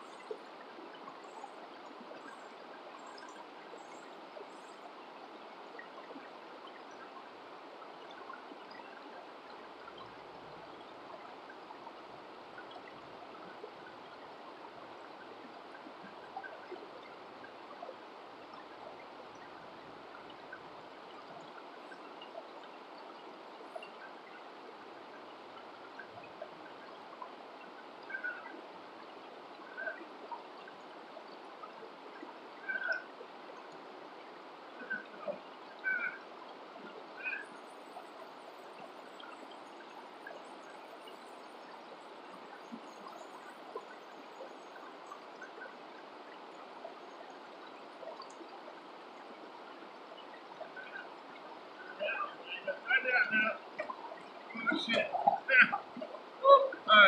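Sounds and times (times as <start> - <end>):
river water rushing over rocks: 6.3 - 57.0.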